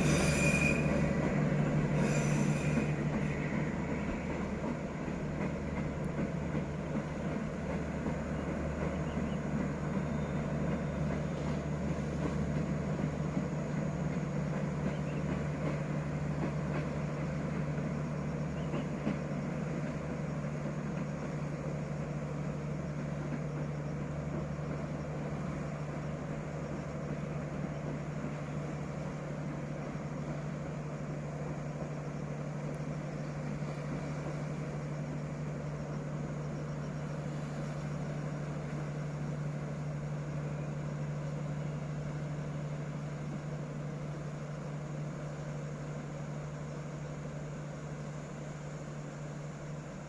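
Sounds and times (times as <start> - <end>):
diesel locomotive engine hum: 0.0 - 50.0
train running noise: 0.0 - 50.0.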